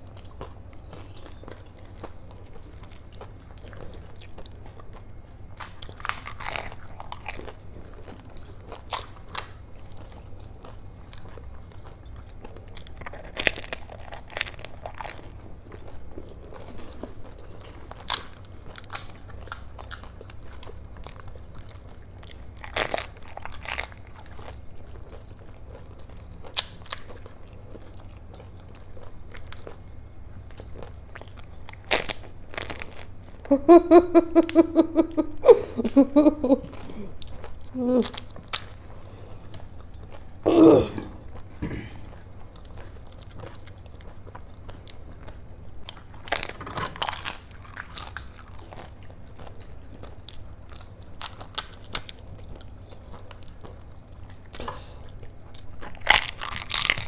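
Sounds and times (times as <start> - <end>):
chewing: 0.0 - 33.5, 35.9 - 57.0
crisp shells crunching when bitten: 0.2 - 33.5, 37.1 - 38.8, 41.0 - 57.0.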